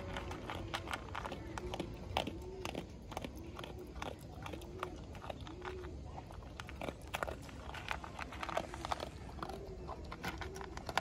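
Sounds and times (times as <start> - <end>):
dog crunching food: 0.0 - 11.0.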